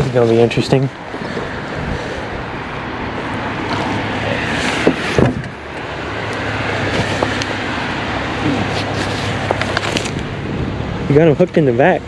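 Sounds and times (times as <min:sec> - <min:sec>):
boat motor humming: 0:00.8 - 0:11.0.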